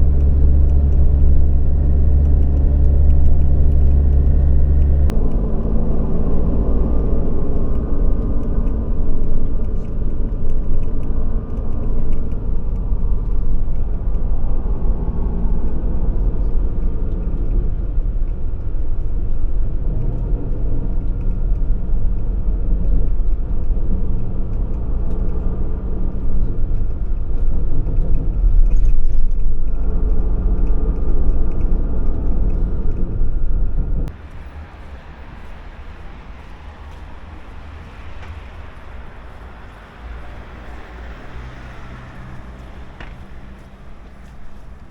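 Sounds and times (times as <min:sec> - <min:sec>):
bus engine drone: 0:00.0 - 0:44.9
road rumble: 0:00.0 - 0:44.9.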